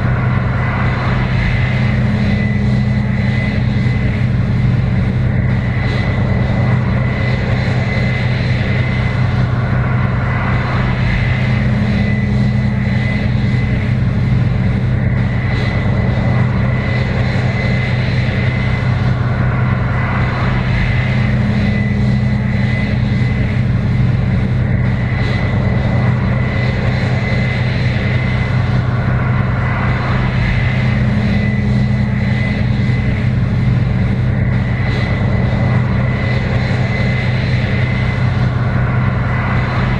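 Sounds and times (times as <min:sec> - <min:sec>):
combine engine drone: 0:00.0 - 0:39.9
constant high whine: 0:00.0 - 0:39.9.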